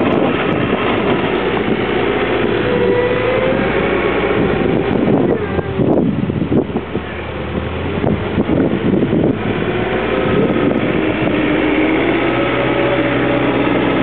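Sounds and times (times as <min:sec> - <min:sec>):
engine whine: 0:00.0 - 0:14.0
loader diesel engine running: 0:00.0 - 0:14.0.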